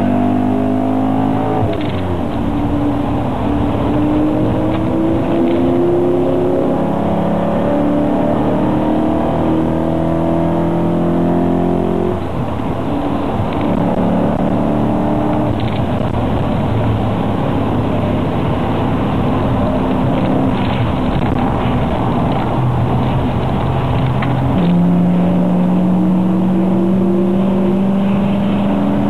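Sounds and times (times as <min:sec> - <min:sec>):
car engine accelerating: 0:00.0 - 0:29.0
road noise: 0:00.0 - 0:29.0.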